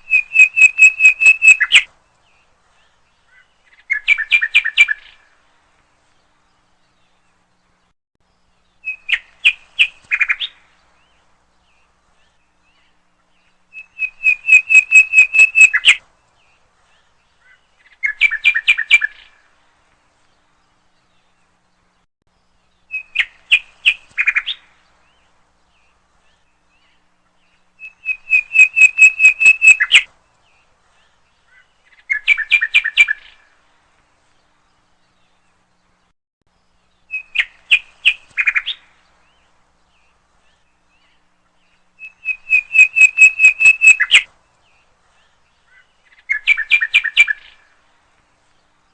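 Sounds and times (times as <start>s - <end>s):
rapid repeated bird notes: 0.0s - 5.0s, 8.5s - 19.4s, 22.8s - 36.1s, 36.8s - 48.9s
bird chirping: 0.0s - 19.6s, 20.2s - 48.9s.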